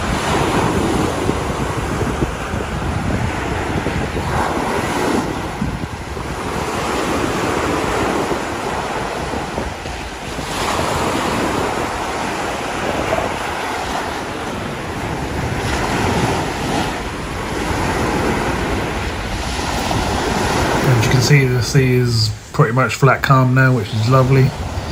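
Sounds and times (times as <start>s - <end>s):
small waves breaking on beach: 0.0s - 24.9s
wind rumbling on microphone: 0.0s - 24.9s.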